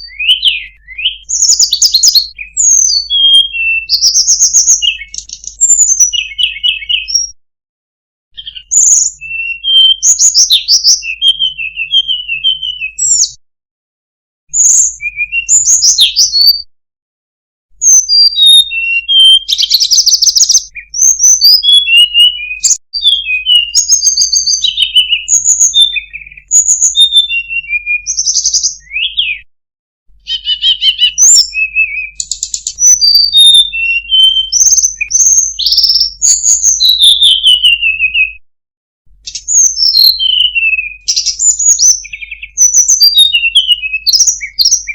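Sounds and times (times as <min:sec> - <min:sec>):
bird singing: 0:00.0 - 0:07.4, 0:08.4 - 0:13.4, 0:14.5 - 0:16.7, 0:17.8 - 0:29.5, 0:30.2 - 0:38.4, 0:39.2 - 0:44.9.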